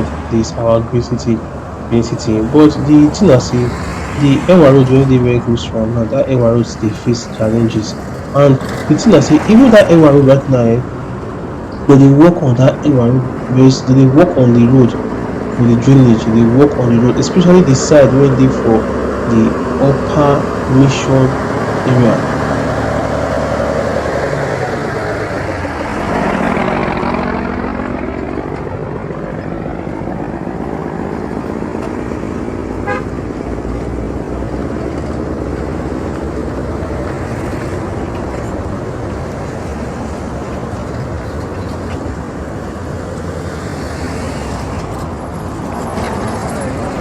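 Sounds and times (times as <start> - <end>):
road traffic: 0.0 - 47.0
vehicle passing close: 0.0 - 47.0.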